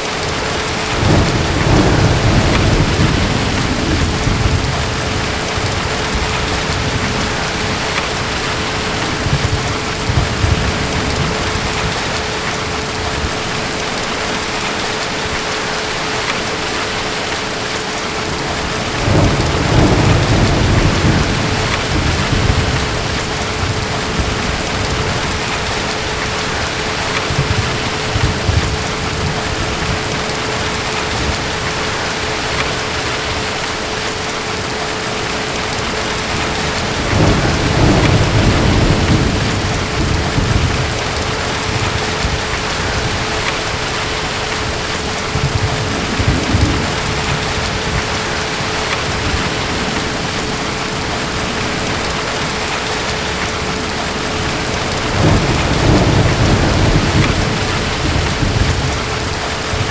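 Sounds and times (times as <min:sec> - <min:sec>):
distant thunder rumbling: 0:00.0 - 0:59.9
heavy rain: 0:00.0 - 0:59.9.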